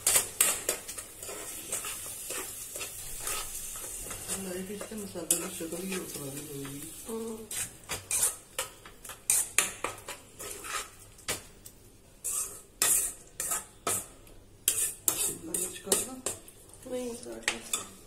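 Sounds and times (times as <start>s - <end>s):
spoon scraping a pan: 0.0s - 11.4s, 12.1s - 16.5s, 17.4s - 18.0s.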